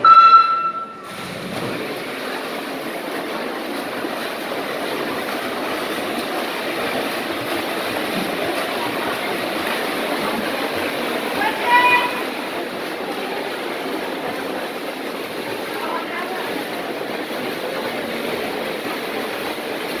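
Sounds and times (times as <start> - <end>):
swimmers splashing: 0.0 - 20.0.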